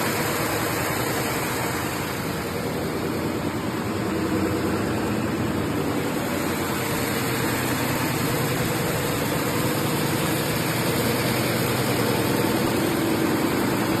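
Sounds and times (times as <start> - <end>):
sanding machine running: 0.0 - 14.0.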